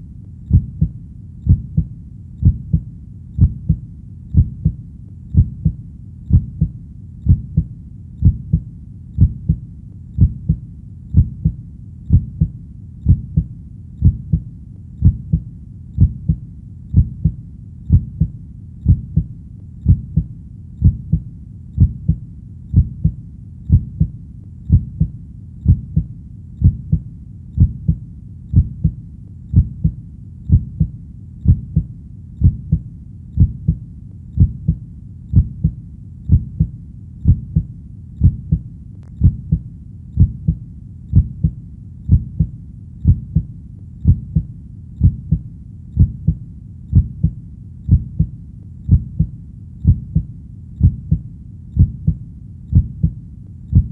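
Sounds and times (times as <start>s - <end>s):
faint low rumble: 0.0s - 53.9s
heartbeat thumps: 0.0s - 53.9s.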